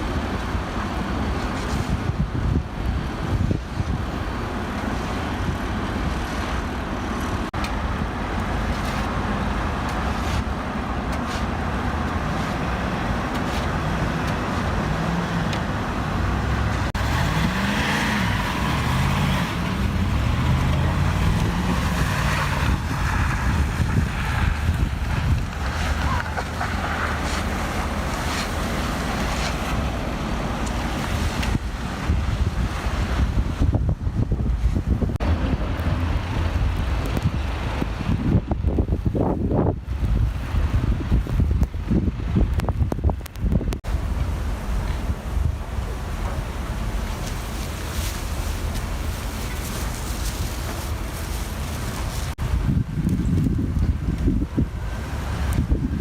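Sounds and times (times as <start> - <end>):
traffic noise: 0.0 - 56.0.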